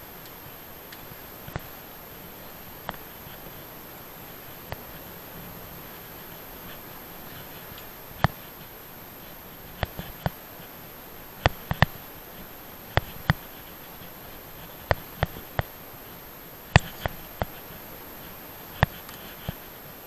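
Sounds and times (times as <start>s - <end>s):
steady road hiss: 0.0s - 20.0s.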